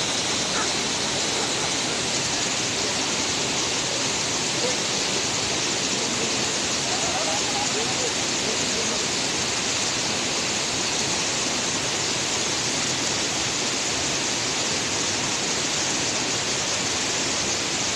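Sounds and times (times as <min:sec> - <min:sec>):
fast-flowing water rushing: 0:00.0 - 0:17.9.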